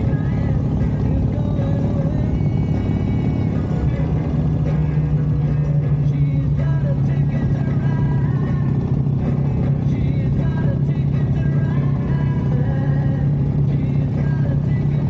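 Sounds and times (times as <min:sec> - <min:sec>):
motorcycle engine cruising: 0:00.0 - 0:15.0
music playing: 0:00.0 - 0:15.0.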